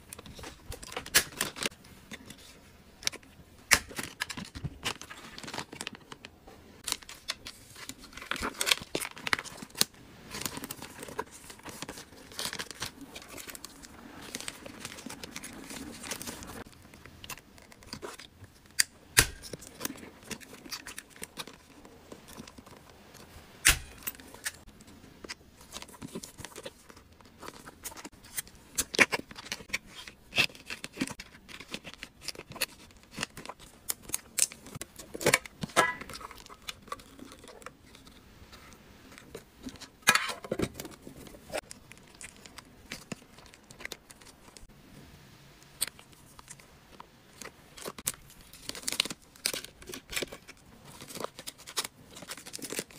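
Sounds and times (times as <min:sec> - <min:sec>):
plastic bags crinkling: 0:03.1 - 0:38.2, 0:39.0 - 0:44.7, 0:45.9 - 0:52.9.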